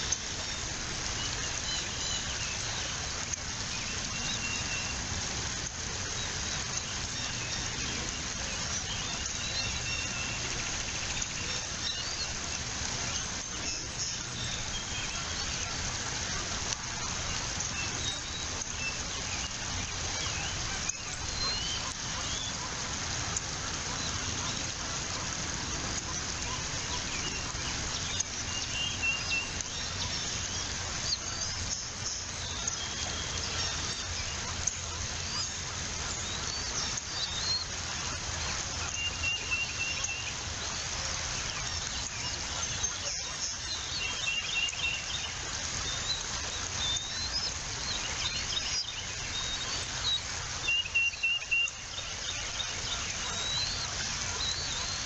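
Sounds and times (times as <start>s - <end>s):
birds chirping: 0.0s - 55.0s
steady background hiss: 0.0s - 55.0s.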